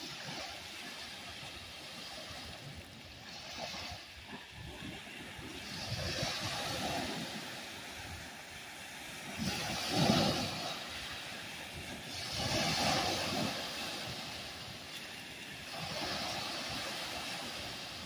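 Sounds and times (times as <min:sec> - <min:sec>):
waves washing on sandy shore: 0:00.0 - 0:18.0.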